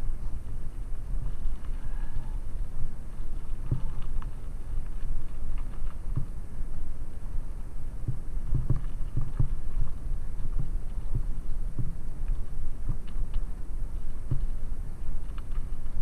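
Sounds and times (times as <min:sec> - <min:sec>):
bicycle tyres rumbling on gravel: 0:00.0 - 0:16.0
wind: 0:00.0 - 0:16.0.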